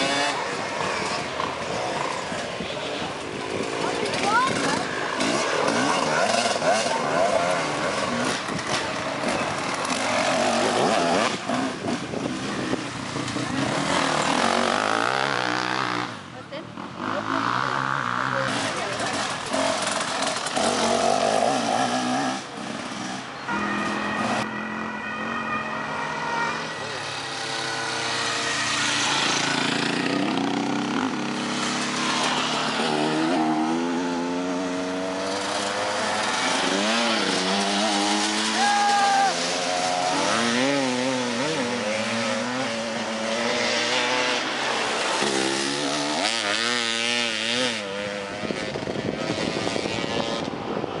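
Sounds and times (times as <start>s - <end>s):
dirt bikes revving past: 0.0s - 51.0s.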